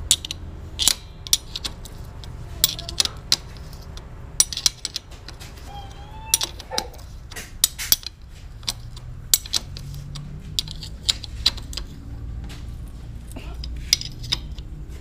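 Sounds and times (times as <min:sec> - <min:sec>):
spanner clinking on metal: 0:00.0 - 0:05.7, 0:06.3 - 0:12.1, 0:12.7 - 0:14.8.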